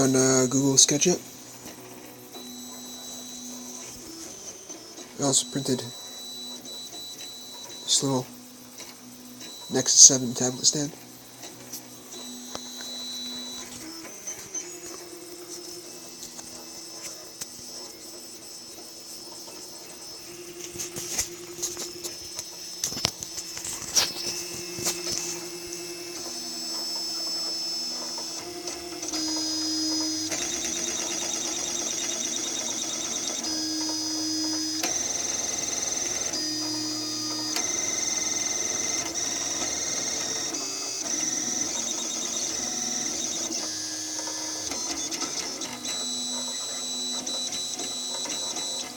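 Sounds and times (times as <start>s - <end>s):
stepper motors whining: 0.0s - 48.9s.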